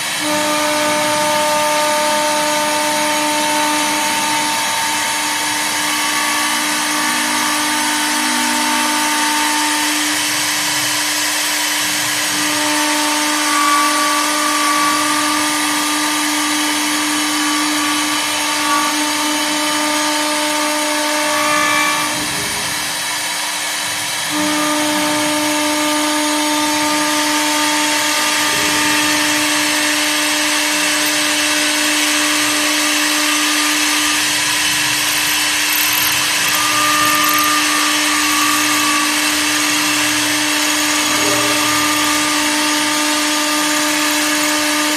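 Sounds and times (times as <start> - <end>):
cnc router spindle cutting wood: 0.0 - 44.9.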